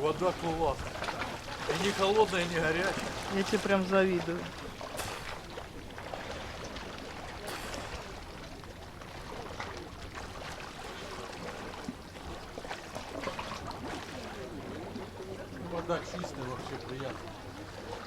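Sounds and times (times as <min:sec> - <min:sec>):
sea water splashing and lapping: 0:00.0 - 0:18.0.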